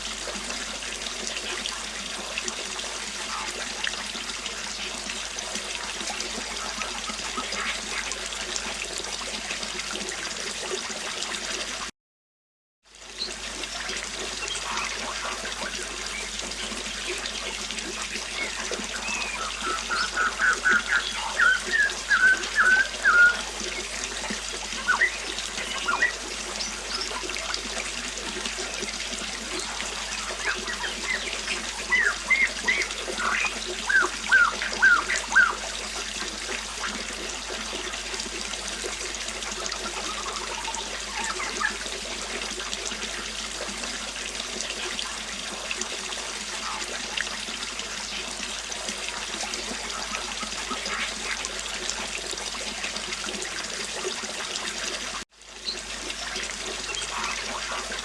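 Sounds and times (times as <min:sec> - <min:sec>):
river water flowing: 0:00.0 - 0:11.8, 0:13.0 - 0:58.0.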